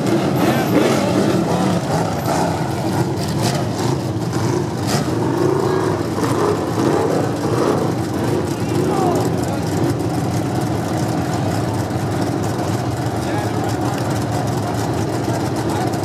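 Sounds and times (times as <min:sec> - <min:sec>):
car engines running at low revs: 0:00.0 - 0:16.0.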